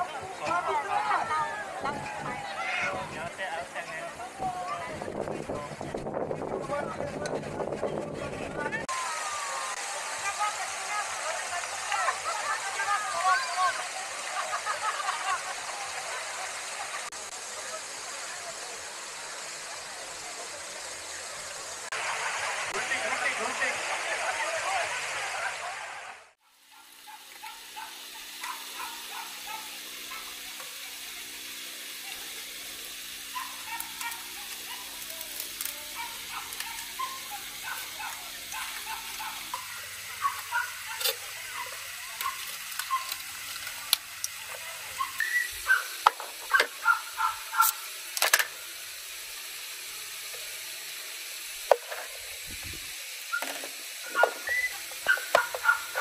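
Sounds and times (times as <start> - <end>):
food sizzling in a pan: 8.9 - 25.8, 26.5 - 56.0.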